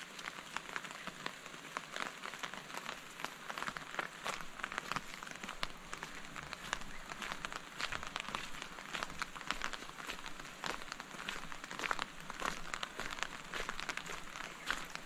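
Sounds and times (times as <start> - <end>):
close raindrop taps: 0.0 - 15.0
steady rain hiss: 0.0 - 15.0.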